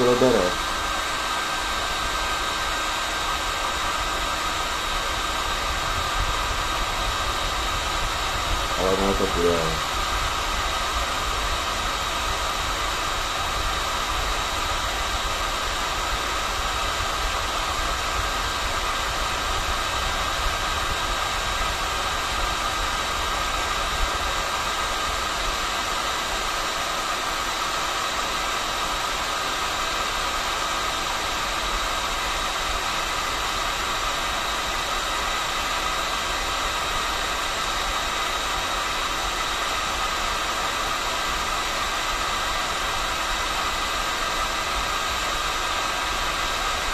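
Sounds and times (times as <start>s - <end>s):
fan whine: 0.0s - 46.9s
hot-air gun blowing hiss: 0.0s - 46.9s.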